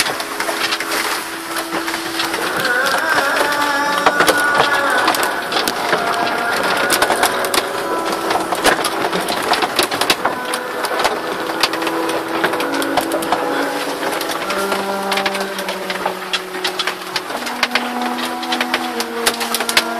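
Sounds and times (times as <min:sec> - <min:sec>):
faint steady tones: 0:00.0 - 0:19.9.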